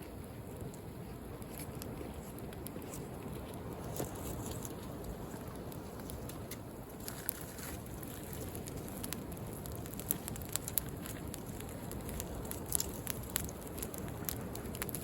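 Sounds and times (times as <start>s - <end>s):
bonfire crackling and popping: 0.1s - 15.0s.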